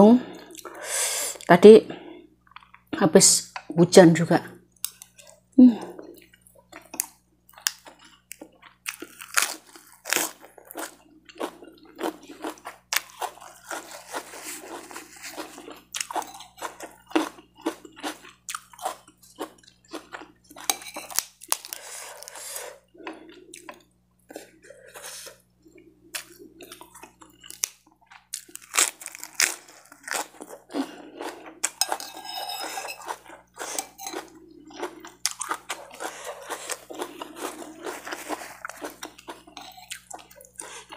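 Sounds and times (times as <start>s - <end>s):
person chewing crunchy food: 4.8s - 40.9s.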